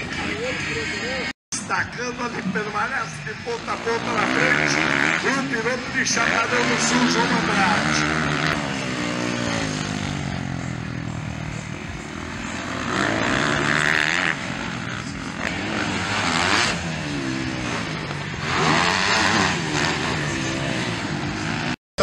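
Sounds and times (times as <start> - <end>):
motocross bike engines revving: 0.0 - 21.8.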